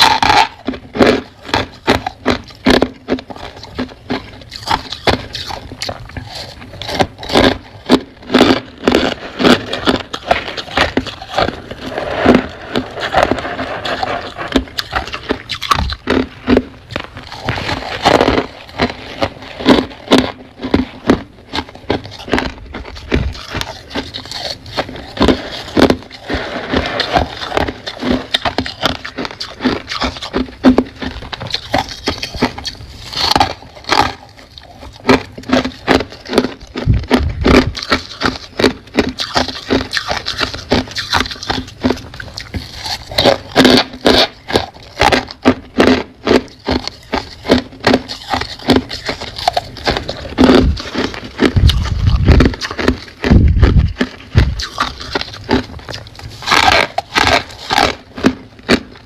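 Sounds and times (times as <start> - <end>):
frost being chewed and crunched: 0.0 - 59.0.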